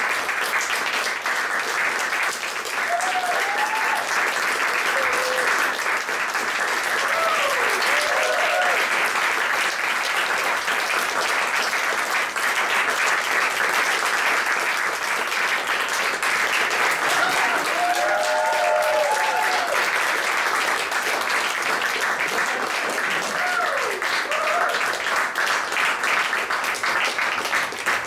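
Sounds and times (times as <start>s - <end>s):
audience applauding: 0.0s - 28.0s.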